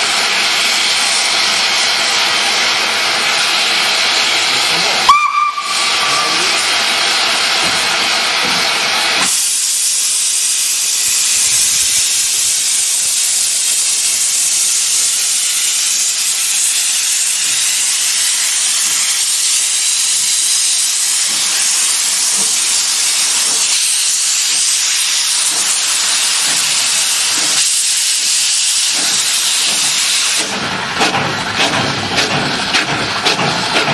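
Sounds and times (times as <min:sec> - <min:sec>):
steam hissing from locomotive: 0:00.0 - 0:33.9.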